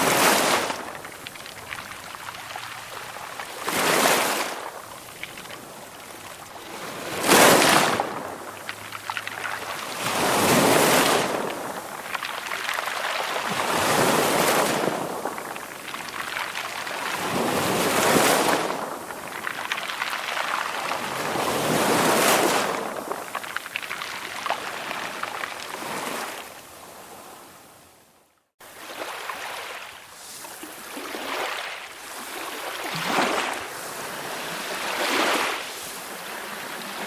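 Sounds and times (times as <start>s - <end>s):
sea waves washing up a shore: 0.0s - 27.9s, 28.6s - 37.0s.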